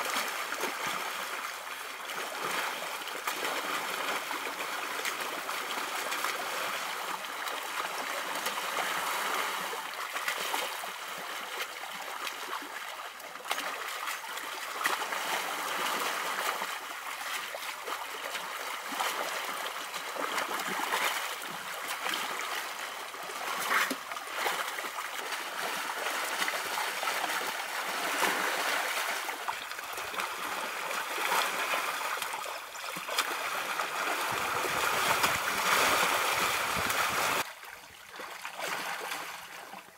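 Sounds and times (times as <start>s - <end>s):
mud and water splashing: 0.0s - 39.9s.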